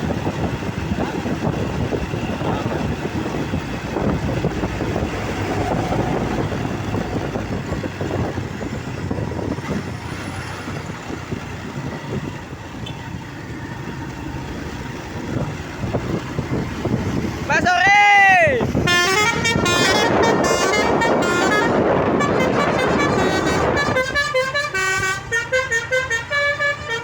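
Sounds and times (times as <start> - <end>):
truck diesel engines rumbling: 0.0 - 27.0.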